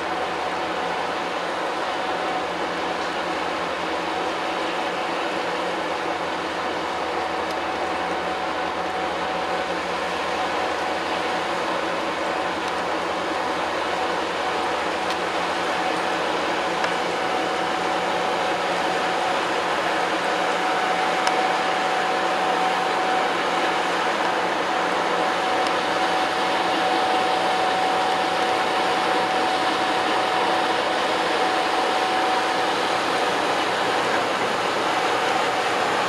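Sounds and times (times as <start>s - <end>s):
patrol boat rushing at speed: 0.0s - 36.0s
waterjet whine: 0.0s - 36.0s.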